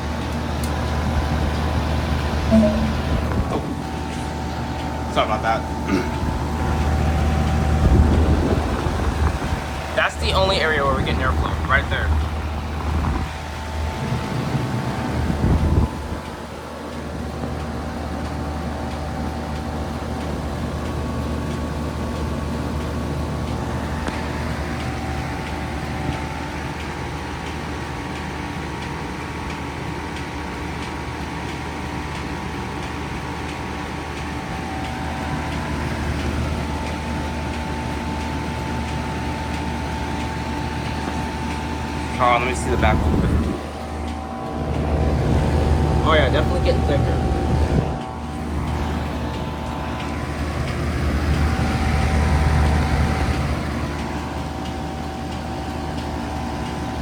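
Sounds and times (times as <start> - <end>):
heat pump humming: 0.0 - 57.0.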